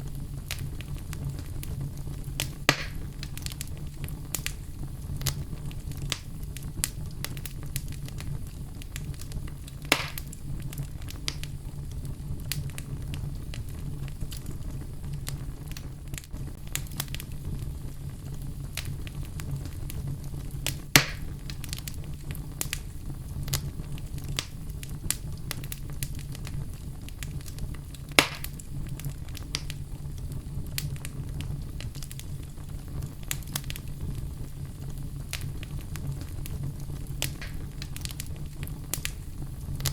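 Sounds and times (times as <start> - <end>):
fire popping sharply: 0.0 - 39.9
low steady rumble: 0.0 - 39.9
wood fire crackling: 0.0 - 39.9.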